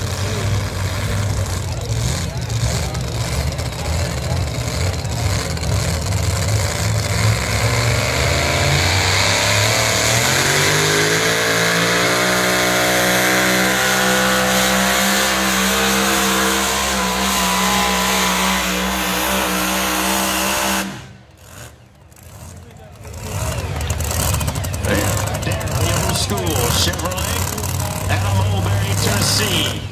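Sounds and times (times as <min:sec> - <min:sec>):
truck engine at full throttle: 0:00.0 - 0:29.9.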